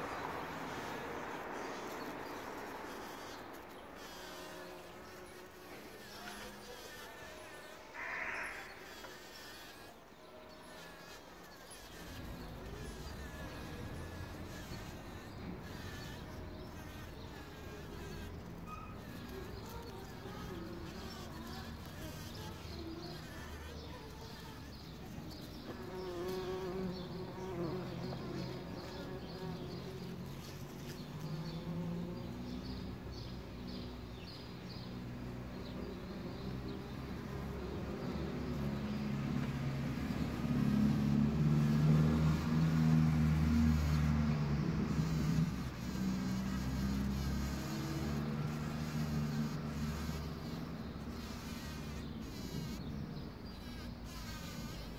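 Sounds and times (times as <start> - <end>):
bumblebee buzzing: 0.0 - 54.9.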